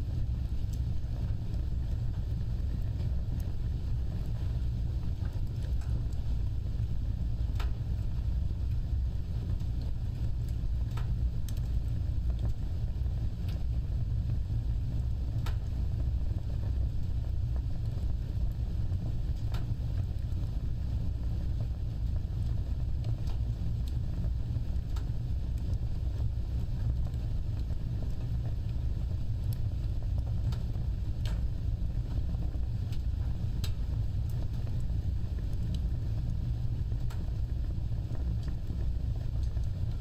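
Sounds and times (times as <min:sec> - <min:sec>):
fire flames rumbling: 0:00.0 - 0:40.0
burning wood crackling: 0:00.1 - 0:40.0.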